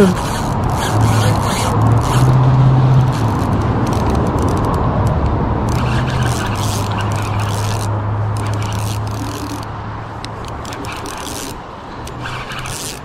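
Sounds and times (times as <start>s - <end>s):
fishing reel whirring and clicking: 0.0s - 9.7s, 10.3s - 13.0s.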